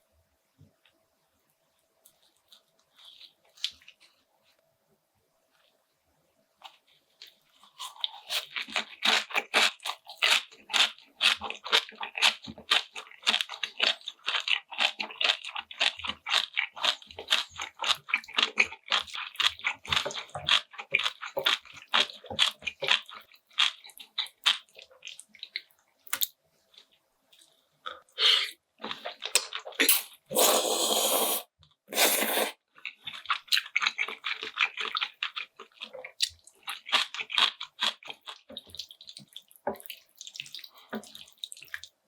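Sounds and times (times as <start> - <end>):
person chewing crunchy food: 6.6 - 42.0.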